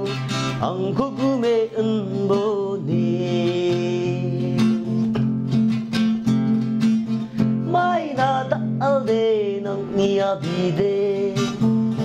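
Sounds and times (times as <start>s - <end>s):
man singing: 0.0s - 5.4s, 7.6s - 12.0s
acoustic guitar strumming: 0.0s - 12.0s.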